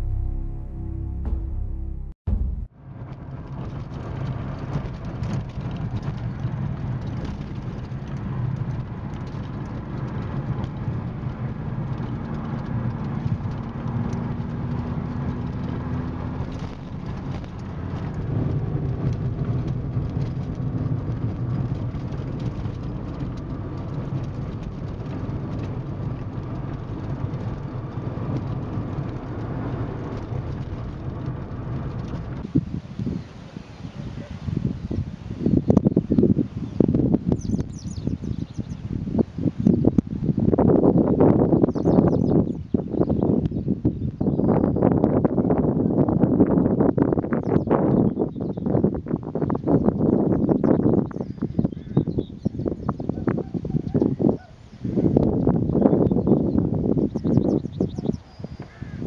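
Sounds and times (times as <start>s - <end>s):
car engine hum: 0.0s - 47.4s
road rumble: 0.0s - 59.0s.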